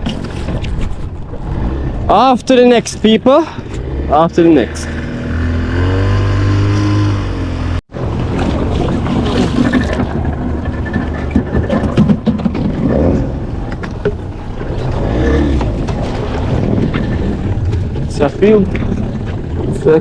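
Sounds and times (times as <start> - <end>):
boat engine running: 0.0 - 20.0
rush of wind and water: 0.0 - 20.0.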